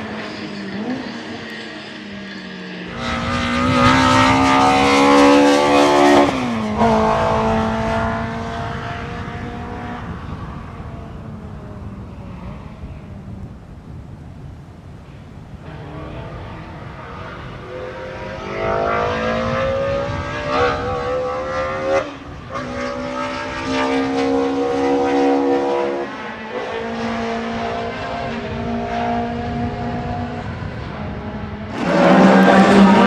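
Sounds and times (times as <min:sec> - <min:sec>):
race car engine accelerating: 0:00.0 - 0:13.0, 0:15.6 - 0:33.0.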